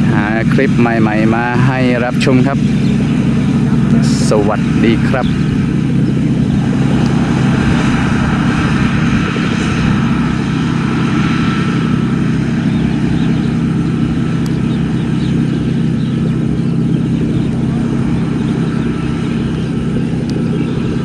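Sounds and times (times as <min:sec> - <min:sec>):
combine harvester droning: 0:00.0 - 0:21.0.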